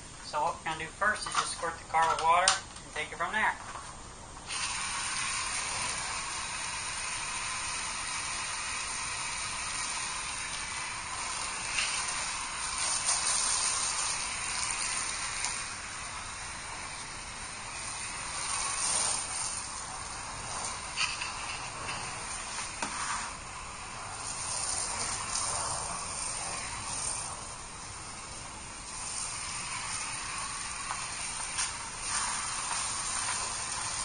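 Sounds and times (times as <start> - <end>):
hose water spraying on a car: 4.4 - 34.0.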